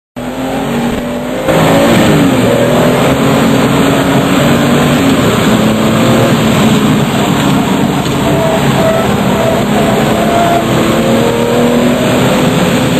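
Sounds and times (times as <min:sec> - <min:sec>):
sports car engine revving: 0:00.2 - 0:12.9.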